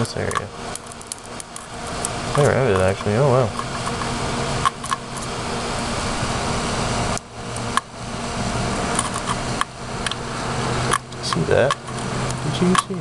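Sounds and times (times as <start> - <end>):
electrical arcing sizzle: 0.0 - 12.6.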